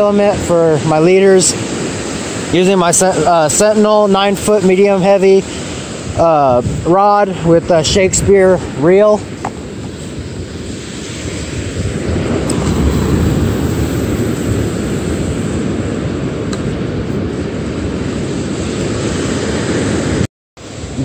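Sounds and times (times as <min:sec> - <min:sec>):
surf washing: 0:00.0 - 0:21.0
wind buffeting microphone: 0:00.0 - 0:21.0.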